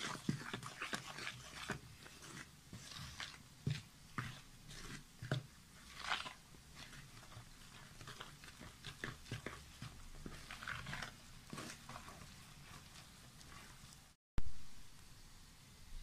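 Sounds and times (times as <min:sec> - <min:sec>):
hand squishing dough: 0:00.0 - 0:14.2.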